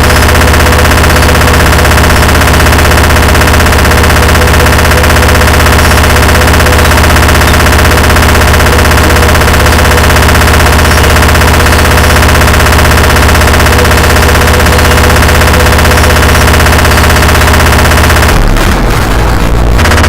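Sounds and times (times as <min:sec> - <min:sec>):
harsh distorted electronic noise: 0:00.0 - 0:20.0.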